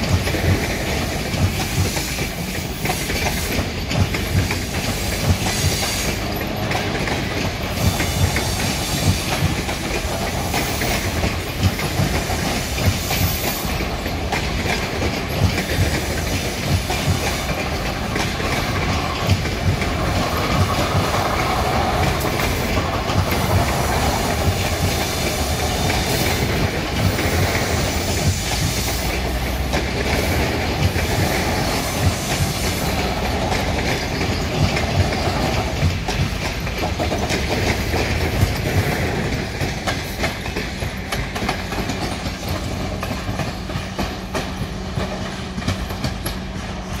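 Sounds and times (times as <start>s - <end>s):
train wheels clattering on track: 0.0s - 47.0s.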